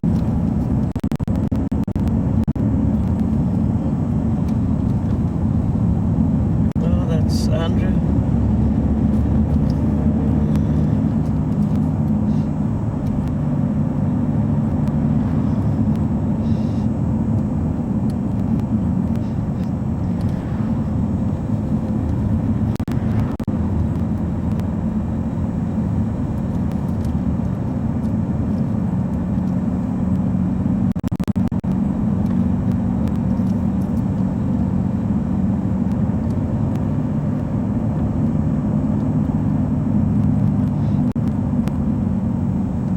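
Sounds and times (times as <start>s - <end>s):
lorry engine drone: 0.0s - 42.9s
road noise: 0.0s - 42.9s.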